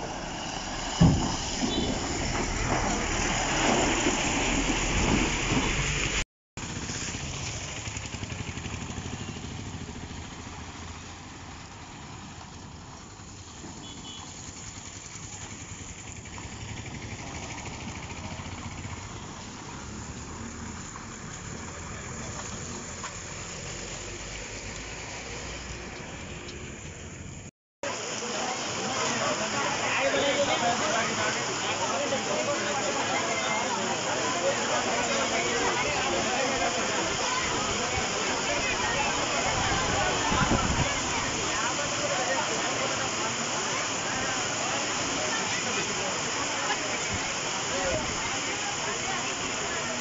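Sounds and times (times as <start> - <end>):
traffic on a wet road: 0.0 - 50.0
truck driving through water: 0.0 - 50.0.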